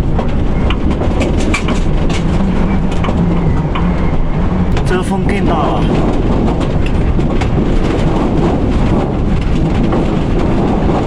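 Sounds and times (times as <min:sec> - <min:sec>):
strong wind buffeting a vehicle: 0:00.0 - 0:11.0.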